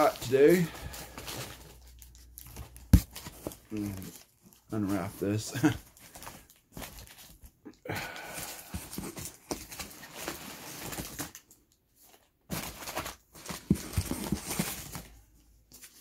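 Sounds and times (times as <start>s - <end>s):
cardboard box rustling and crinkling: 0.0s - 7.6s, 8.4s - 16.0s.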